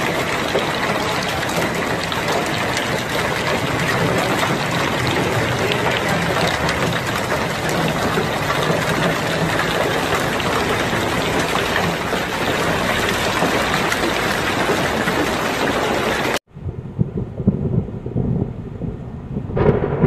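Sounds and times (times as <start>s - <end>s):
hail ticks: 0.0s - 16.4s
heavy downpour hiss: 0.0s - 16.4s.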